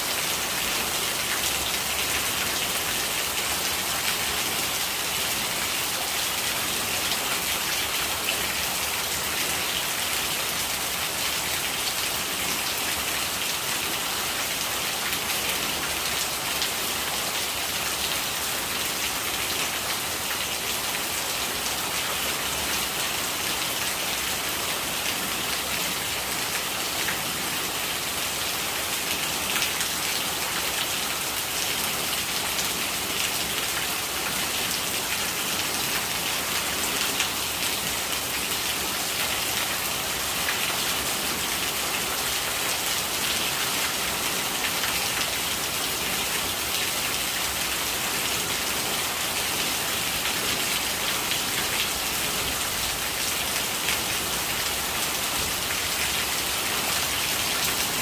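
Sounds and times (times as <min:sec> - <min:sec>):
running rainwater: 0:00.0 - 0:58.0.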